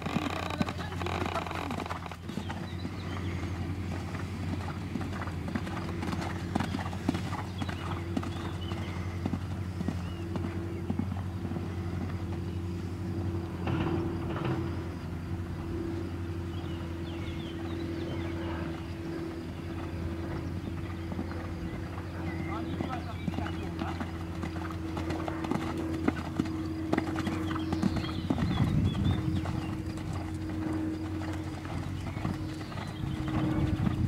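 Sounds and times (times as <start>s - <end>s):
horse hoofbeats on sand: 0.0s - 14.9s, 15.8s - 34.0s
steady low hum: 0.0s - 34.0s.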